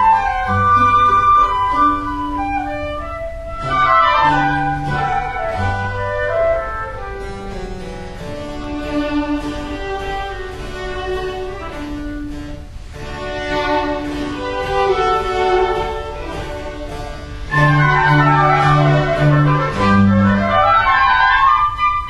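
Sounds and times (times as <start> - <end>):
sustained instrumental music: 0.0 - 22.0.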